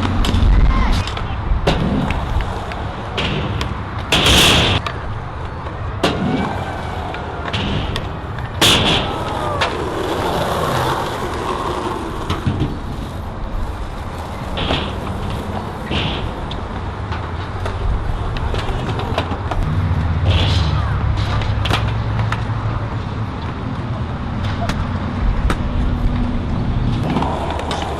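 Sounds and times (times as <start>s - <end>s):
skateboard clacking: 0.0s - 20.1s, 20.9s - 27.9s
skateboard wheels rolling: 0.0s - 20.2s, 20.8s - 27.9s.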